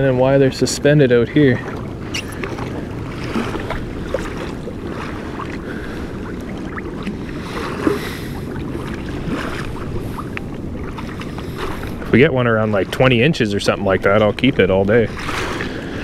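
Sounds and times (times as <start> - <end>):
water lapping against kayak hull: 0.0 - 16.0
wind on microphone: 0.0 - 16.0.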